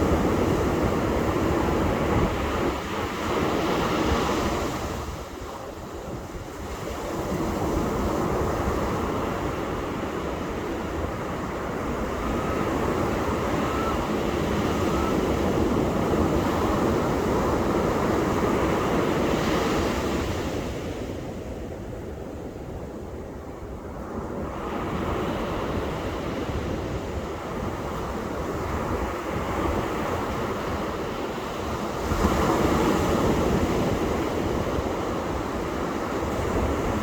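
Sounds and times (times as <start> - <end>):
waves breaking on a beach: 0.0 - 37.0.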